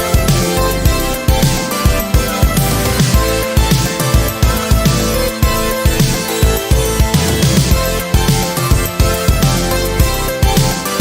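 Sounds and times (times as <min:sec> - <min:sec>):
electronic music with bass drum: 0:00.0 - 0:11.0.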